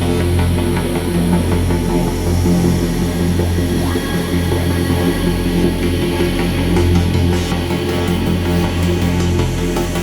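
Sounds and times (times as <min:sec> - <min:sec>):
dark electronic music: 0:00.0 - 0:10.0.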